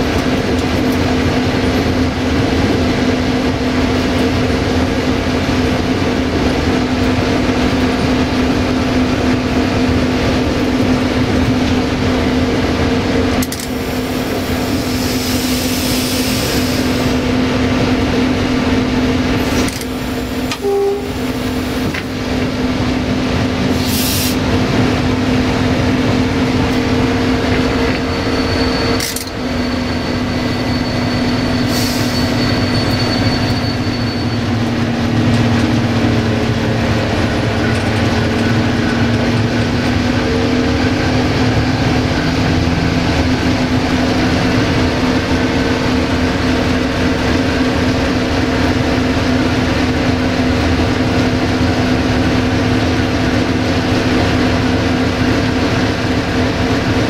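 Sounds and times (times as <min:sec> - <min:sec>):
diesel locomotive engine running: 0:00.0 - 0:57.0
wheels rumbling on rails: 0:00.0 - 0:57.0.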